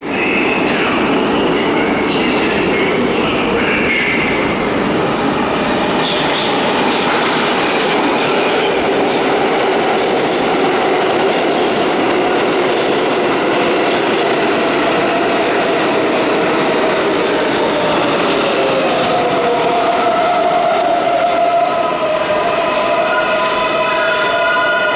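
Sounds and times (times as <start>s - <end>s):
subway train wheels rumbling: 0.0s - 24.9s.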